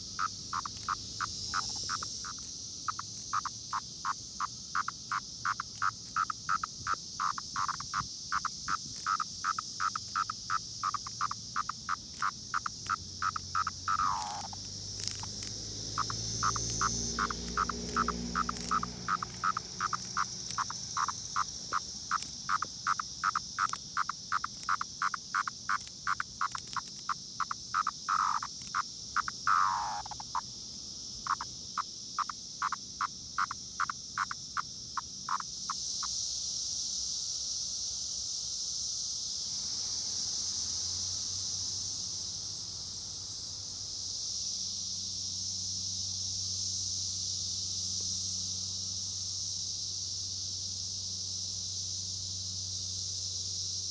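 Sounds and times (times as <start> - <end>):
cicada buzzy pulses: 0.0 - 53.9
distant cicada chorus drone: 0.0 - 53.9.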